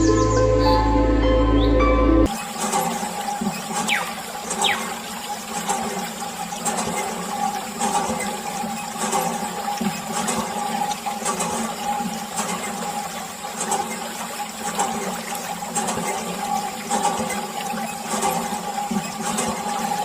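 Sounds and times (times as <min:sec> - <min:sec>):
faint motor hum: 0:00.0 - 0:20.0
water pouring and splashing: 0:02.3 - 0:20.0.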